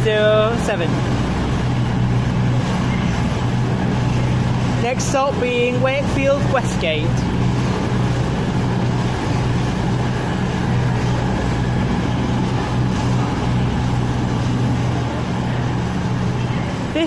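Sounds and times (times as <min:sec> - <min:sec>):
train diesel engines humming: 0:00.0 - 0:17.0.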